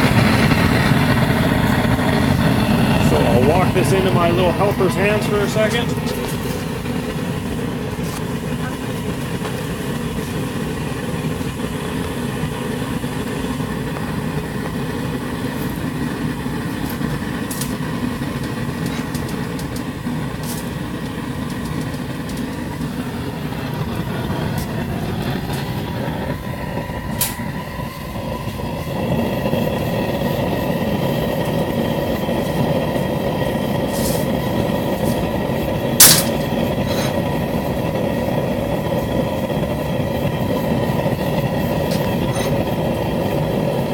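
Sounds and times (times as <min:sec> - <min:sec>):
forge burner flame rushing: 0:00.0 - 0:43.9.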